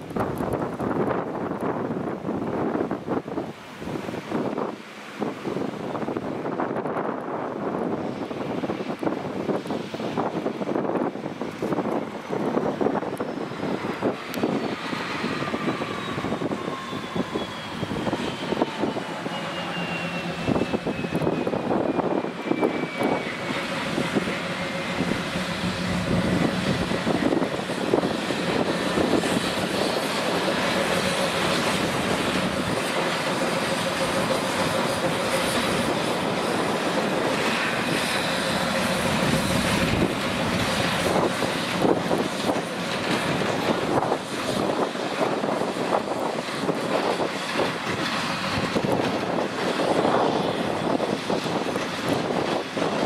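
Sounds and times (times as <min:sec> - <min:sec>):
diesel locomotive engine drone: 0:00.0 - 0:53.0
train wagons rolling: 0:06.1 - 0:53.0.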